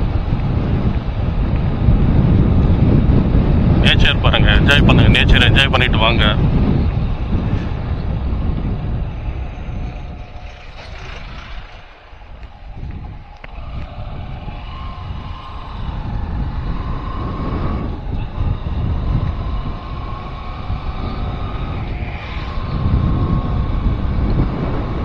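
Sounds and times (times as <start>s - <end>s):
steady whine: 0.0s - 25.0s
wind rushing over microphone: 0.0s - 25.0s.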